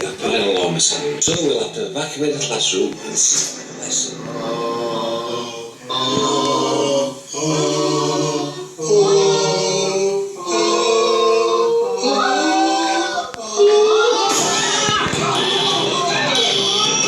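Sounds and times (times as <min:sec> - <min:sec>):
choir singing sustained chords: 0:02.9 - 0:17.0.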